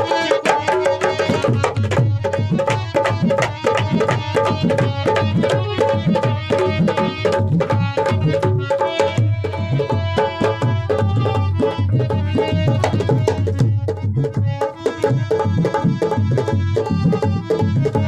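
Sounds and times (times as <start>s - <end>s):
harmonium notes: 0.0s - 18.0s
tabla playing fast rhythm: 0.0s - 18.0s.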